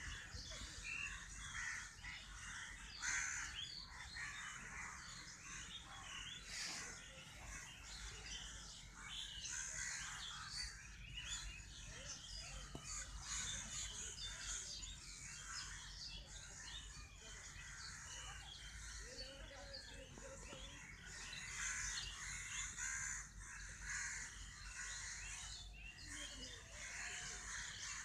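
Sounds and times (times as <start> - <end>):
crow-like calls: 0.0 - 10.9, 12.7 - 28.0
birds chirping chorus: 0.0 - 28.0.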